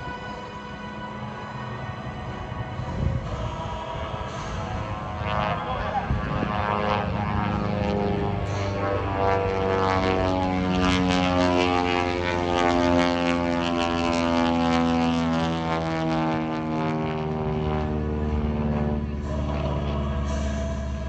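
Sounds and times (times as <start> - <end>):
propeller airplane engines droning: 0.0 - 21.0.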